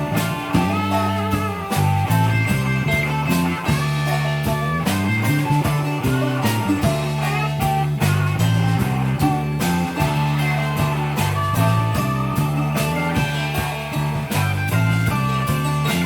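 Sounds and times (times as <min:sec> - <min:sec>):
drum kit beat: 0:00.0 - 0:16.0
electric bass line: 0:00.0 - 0:16.0
electric guitars: 0:00.0 - 0:16.0
pitch-bending lead guitar line: 0:00.0 - 0:16.0.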